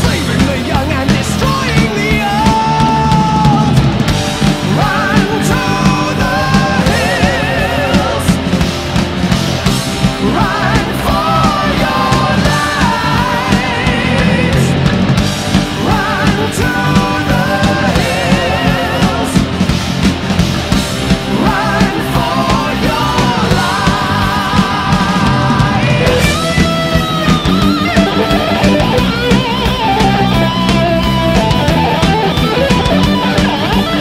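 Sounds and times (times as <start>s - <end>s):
rock music with singing: 0.0s - 34.0s.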